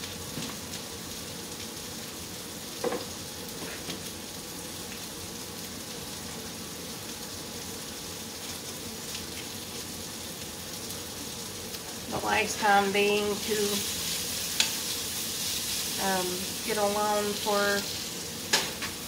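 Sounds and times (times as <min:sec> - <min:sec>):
sausages sizzling in a frying pan: 0:00.0 - 0:19.0.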